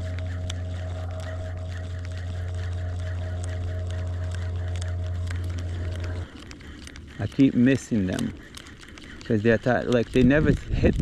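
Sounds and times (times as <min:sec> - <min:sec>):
small motor humming: 0:00.0 - 0:11.0.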